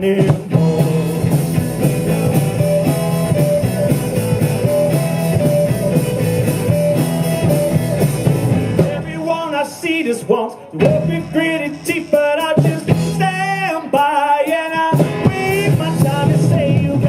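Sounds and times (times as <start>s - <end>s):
rock band playing instrumental: 0.0s - 17.0s.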